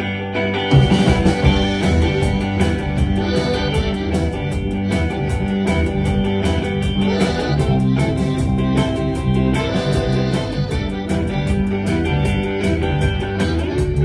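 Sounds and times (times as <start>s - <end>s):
bass guitar: 0.0s - 14.0s
electric guitar: 0.0s - 14.0s
live rock band playing: 0.0s - 14.0s
steady drum beat: 0.7s - 14.0s.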